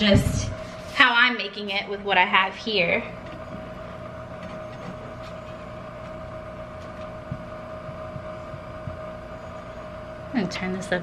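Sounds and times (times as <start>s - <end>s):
kitchen appliance humming: 0.0s - 11.0s.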